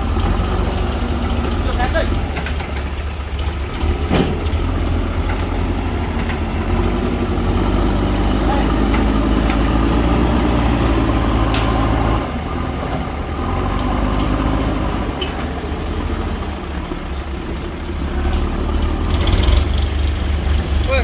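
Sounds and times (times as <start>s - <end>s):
diesel machinery engine running: 0.0s - 21.0s.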